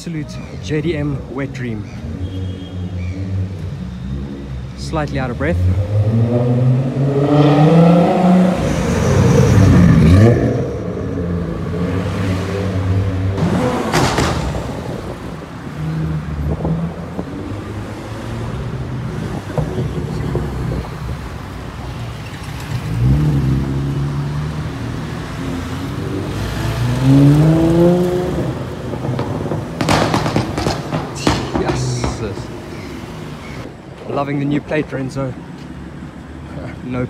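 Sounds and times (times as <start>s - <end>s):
passing street traffic: 0.0s - 37.0s
car accelerating: 1.0s - 33.7s.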